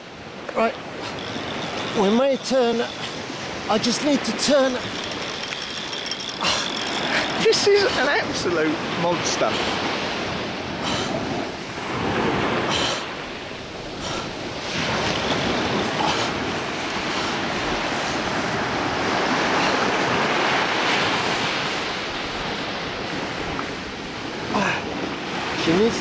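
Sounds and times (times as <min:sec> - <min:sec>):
surf washing onto beach: 0:00.0 - 0:26.0
wind on microphone: 0:00.8 - 0:25.5.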